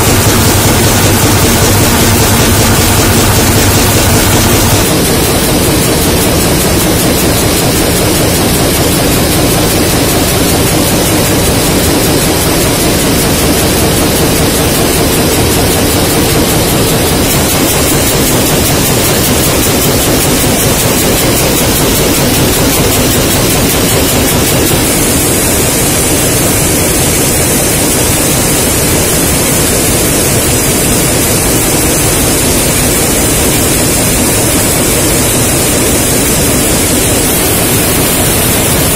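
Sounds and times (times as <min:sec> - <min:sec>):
can production line machine din: 0:00.0 - 0:38.9.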